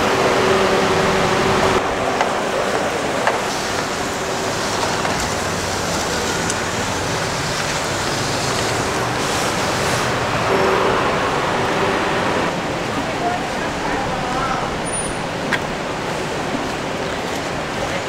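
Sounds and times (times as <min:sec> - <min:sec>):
busy market din: 0:00.0 - 0:18.0.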